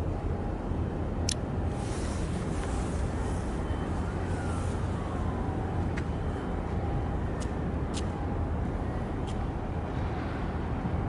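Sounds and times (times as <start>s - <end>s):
low outdoor rumble and hiss: 0.0s - 11.0s.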